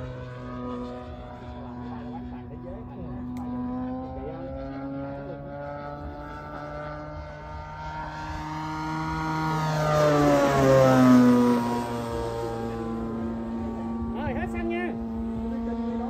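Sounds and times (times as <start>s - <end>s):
model plane engine flying past: 0.0s - 16.0s.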